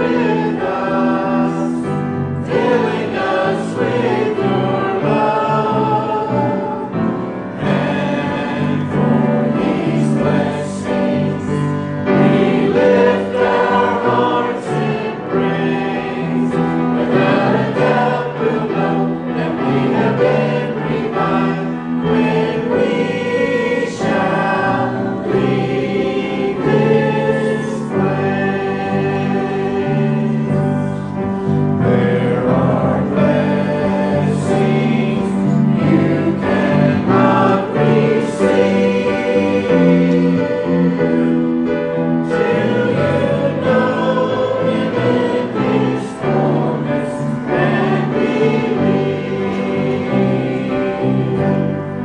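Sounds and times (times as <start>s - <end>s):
congregation singing a hymn: 0.0s - 52.0s.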